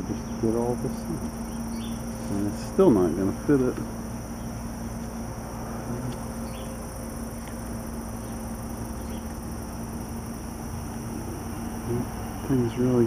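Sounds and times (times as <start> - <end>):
insects shrilling: 0.0 - 13.0
low steady hum: 0.0 - 13.0.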